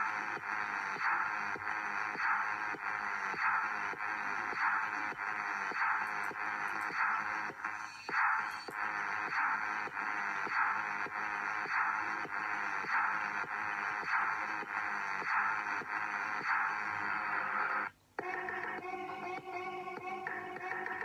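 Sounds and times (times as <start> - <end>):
tinny music with steady beat: 0.0 - 21.0.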